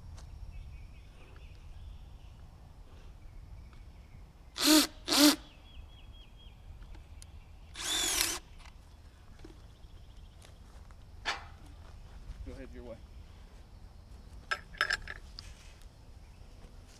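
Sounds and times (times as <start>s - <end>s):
faint bird chirping: 0.2s - 14.5s.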